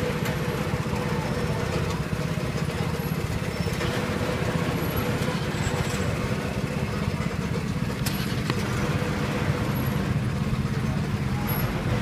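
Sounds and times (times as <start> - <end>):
engine idling rumble: 0.0 - 12.0.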